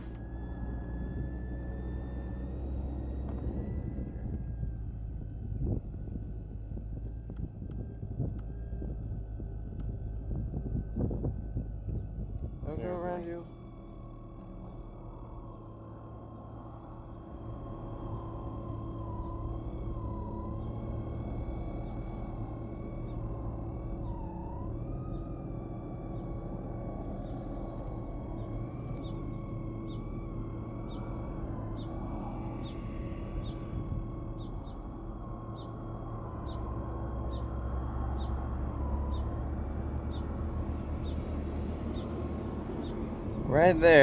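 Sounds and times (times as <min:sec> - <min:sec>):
motor humming with a whine: 0:00.0 - 0:44.0
road traffic rumbling: 0:00.0 - 0:44.0.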